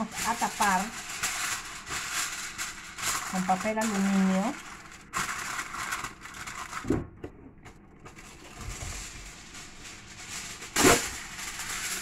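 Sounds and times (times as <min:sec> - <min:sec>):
aluminium foil crinkling: 0:00.0 - 0:07.0, 0:08.0 - 0:12.0.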